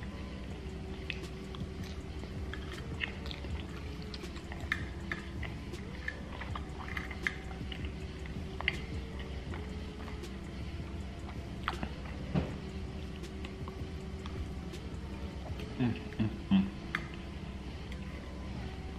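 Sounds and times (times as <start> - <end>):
person chewing food: 0.0 - 18.9.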